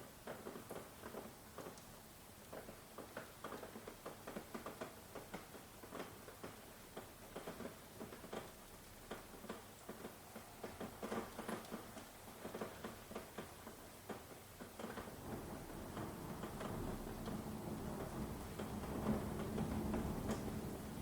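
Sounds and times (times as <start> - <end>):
rain drips and taps: 0.0 - 21.0
soft rain hiss: 0.0 - 21.0.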